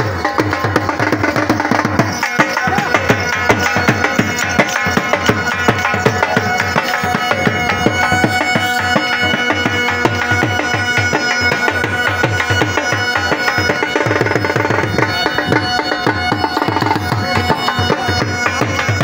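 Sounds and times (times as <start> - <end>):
drum beaten fast: 0.0 - 19.0
held wavering melody: 0.3 - 19.0.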